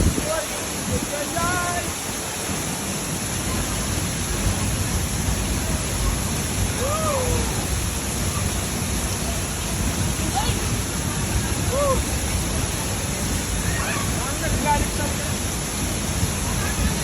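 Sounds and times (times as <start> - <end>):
waterfall pouring: 0.0 - 17.0.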